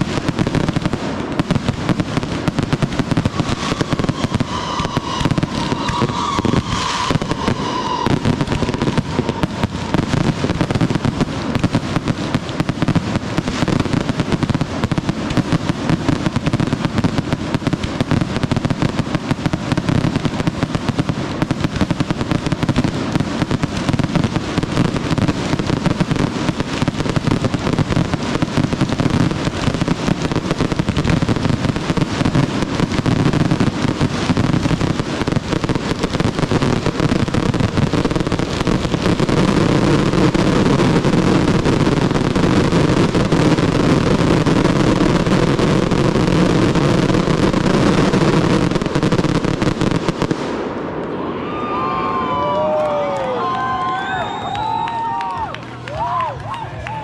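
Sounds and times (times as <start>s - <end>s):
fireworks barrage: 0.0s - 57.0s.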